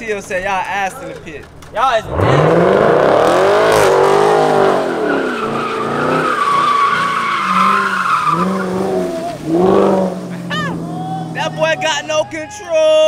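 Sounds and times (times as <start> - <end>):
car engine revving: 0.0 - 12.4
tire squeal: 1.2 - 12.7.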